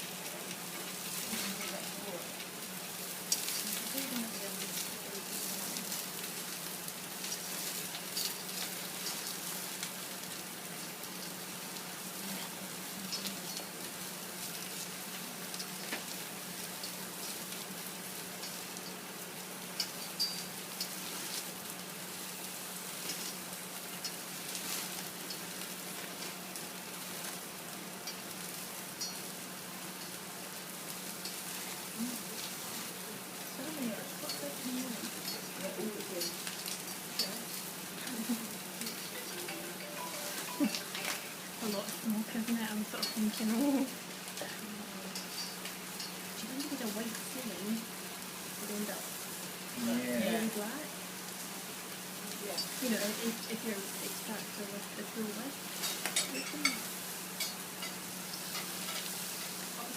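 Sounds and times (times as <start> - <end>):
food sizzling on a grill: 0.0 - 59.9.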